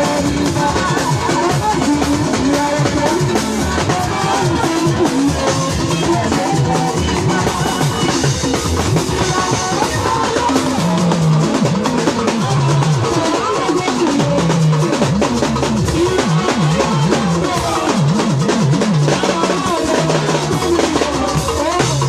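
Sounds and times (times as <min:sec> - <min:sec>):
drum kit beat: 0:00.0 - 0:22.0
gospel band music: 0:00.0 - 0:22.0.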